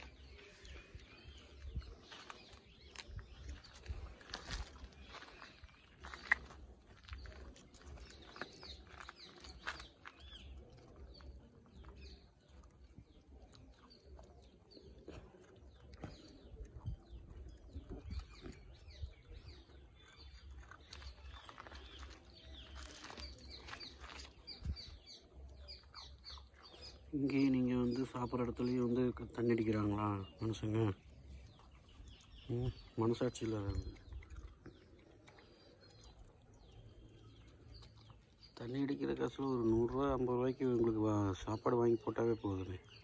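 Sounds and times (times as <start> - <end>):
birds chirping: 0.0 - 43.0
puppies chewing dry food: 0.0 - 43.0.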